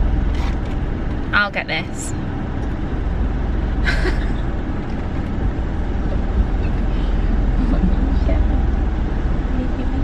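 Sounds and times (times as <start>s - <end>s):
car engine rumble from inside: 0.0s - 10.0s.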